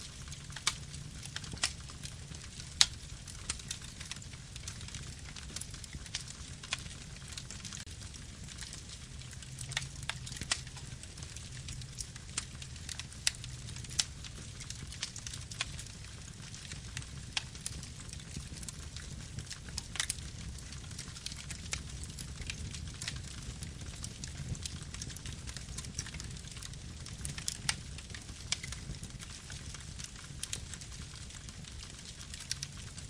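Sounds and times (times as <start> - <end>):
burning wood crackling and popping: 0.0 - 33.0
campfire flame rumble: 0.0 - 33.0.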